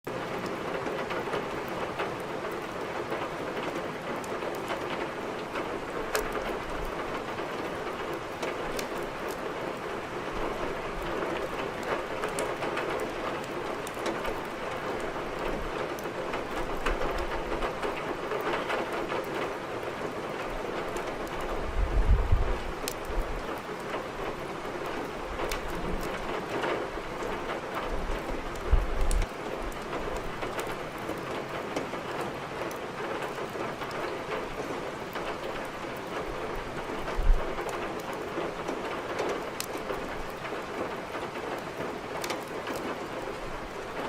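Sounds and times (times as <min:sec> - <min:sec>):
steady rain hissing: 0:00.1 - 0:44.0
wood fire crackling: 0:00.2 - 0:44.0.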